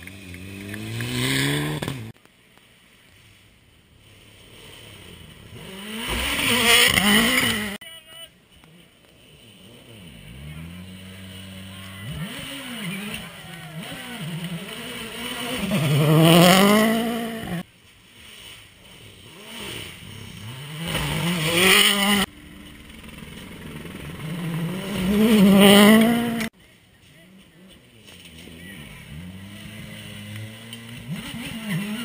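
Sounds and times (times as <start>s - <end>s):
rally cars racing past: 0.0s - 2.2s, 4.2s - 7.8s, 8.7s - 26.6s, 27.7s - 32.0s.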